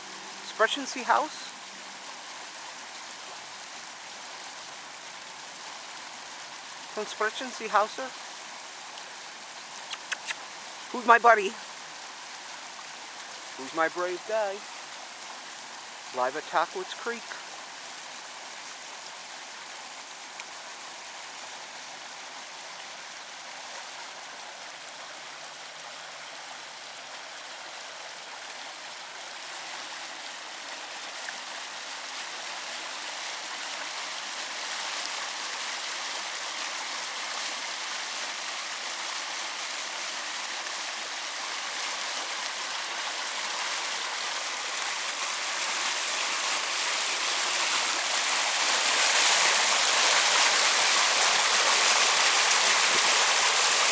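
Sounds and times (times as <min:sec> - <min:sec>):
creek rushing: 0:00.0 - 0:53.9.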